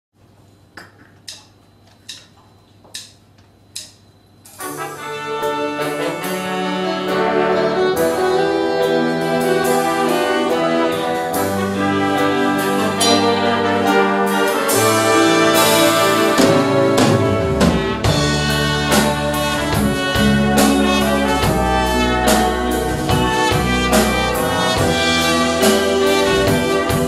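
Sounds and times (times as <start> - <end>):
big band brass music: 4.6 - 27.0.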